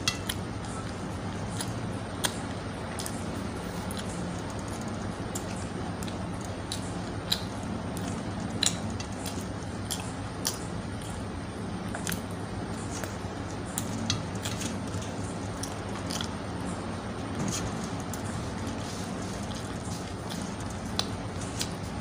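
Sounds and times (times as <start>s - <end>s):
man chewing with wet mouth sounds: 0.0s - 22.0s
steady low hum: 0.0s - 22.0s.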